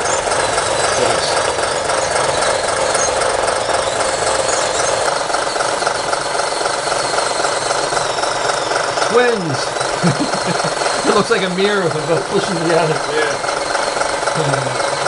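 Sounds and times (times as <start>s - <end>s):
toy machine motors whirring: 0.0s - 15.0s.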